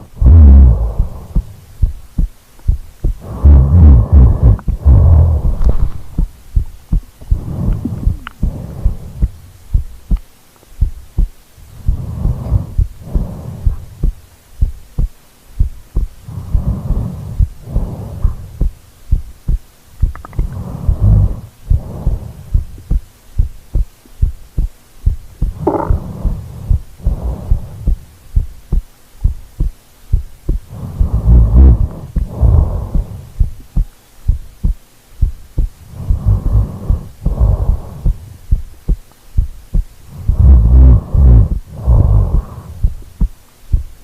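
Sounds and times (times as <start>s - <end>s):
slow deep breathing: 0.0s - 10.2s, 10.8s - 43.9s
heartbeat thumps: 0.0s - 44.0s.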